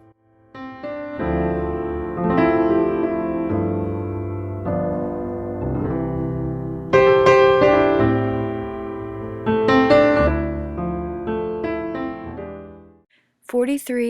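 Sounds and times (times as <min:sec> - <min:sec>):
slow piano chords: 0:00.0 - 0:13.1.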